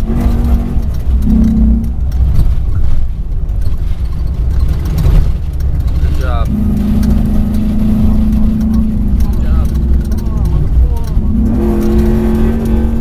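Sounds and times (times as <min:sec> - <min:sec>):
truck engine rumbling: 0:00.0 - 0:13.0
truck rattling over rough track: 0:00.0 - 0:13.0.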